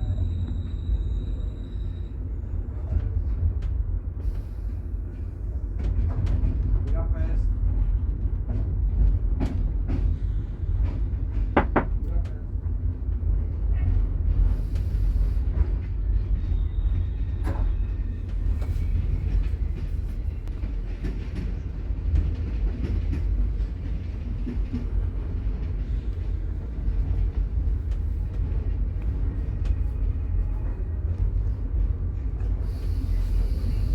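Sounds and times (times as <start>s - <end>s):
train rumbling on rails: 0.0s - 33.9s.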